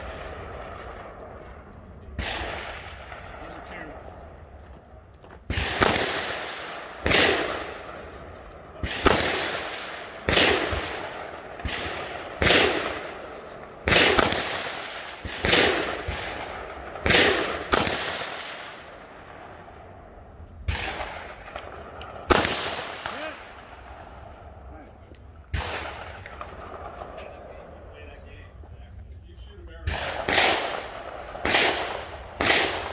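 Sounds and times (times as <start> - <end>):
rifle shots with echo: 0.0 - 28.7, 29.5 - 32.9.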